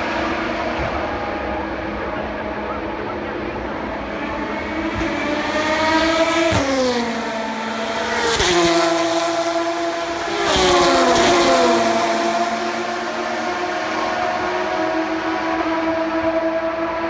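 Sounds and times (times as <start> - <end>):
race cars passing at full speed: 0.0 - 17.0.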